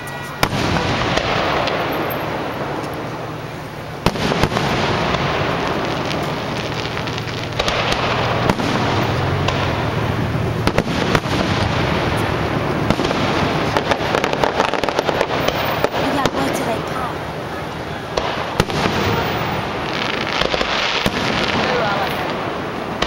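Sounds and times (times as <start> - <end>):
firework bangs: 0.0 - 23.0
firework crackle: 0.0 - 23.0.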